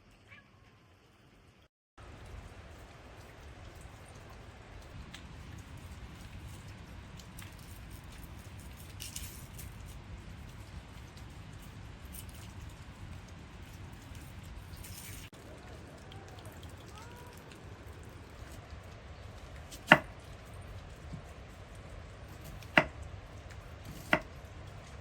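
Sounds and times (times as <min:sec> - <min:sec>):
sharp drips: 0:02.0 - 0:09.0, 0:09.6 - 0:25.0
rain falling: 0:02.0 - 0:25.0.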